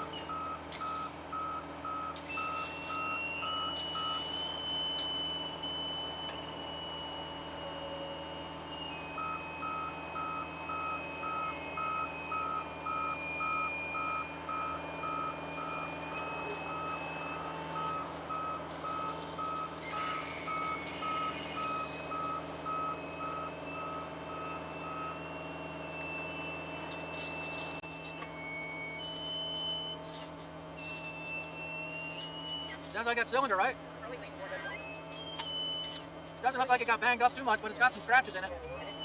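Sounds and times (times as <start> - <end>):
backup alarm beeping: 0.0 - 39.0
diesel engine running: 0.0 - 39.0.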